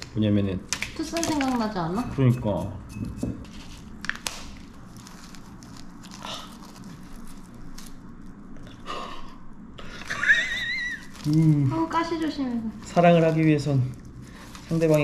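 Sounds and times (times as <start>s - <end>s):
soft rustling of paper and pot: 0.8s - 8.8s, 10.8s - 15.0s.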